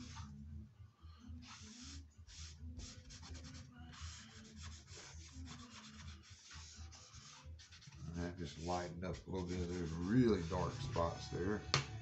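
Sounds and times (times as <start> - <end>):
hand scrubbing on wood: 1.4 - 11.4.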